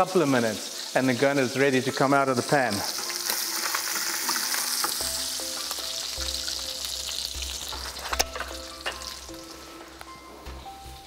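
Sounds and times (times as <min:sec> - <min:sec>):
hot fat sizzling in a frying pan: 0:00.0 - 0:11.0.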